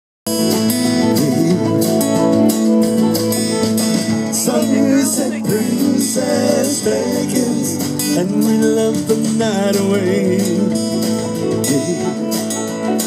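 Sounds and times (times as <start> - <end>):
guitar: 0.3 - 13.0
live rock band playing: 0.3 - 13.0
wavering melodic lines: 0.3 - 13.0.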